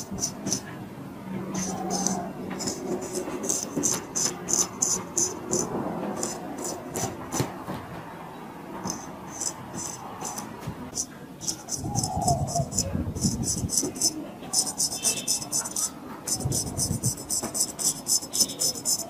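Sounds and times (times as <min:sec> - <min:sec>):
razor scraping stubble: 0:01.6 - 0:07.6, 0:08.9 - 0:19.0.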